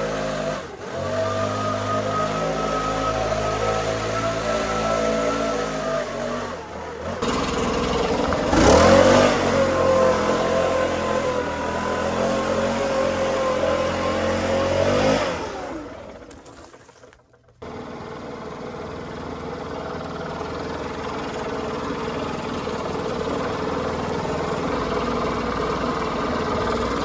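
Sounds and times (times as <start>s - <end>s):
leaf blower engine running: 0.0s - 27.0s.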